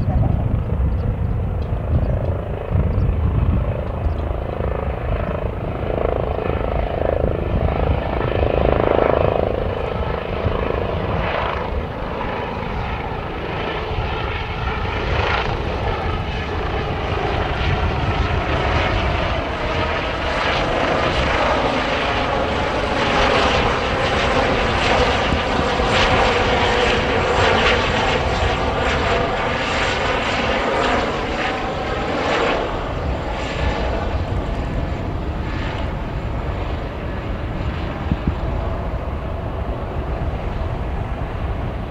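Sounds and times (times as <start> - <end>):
helicopter flying low: 0.0 - 41.9.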